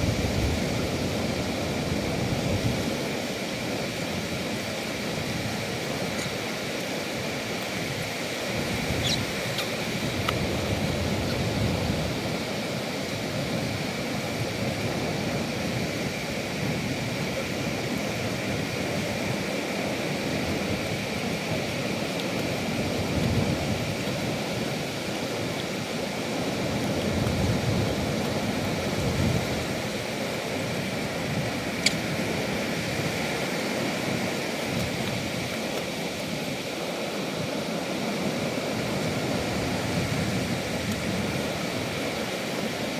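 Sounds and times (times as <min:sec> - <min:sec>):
low surf: 0:00.0 - 0:42.9
wind on microphone: 0:00.0 - 0:42.9.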